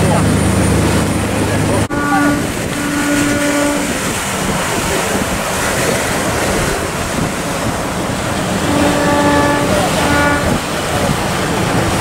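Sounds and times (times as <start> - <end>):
choppy sea: 0.0 - 12.0
rush of boat wake: 0.0 - 12.0
wind buffeting microphone: 0.0 - 12.0.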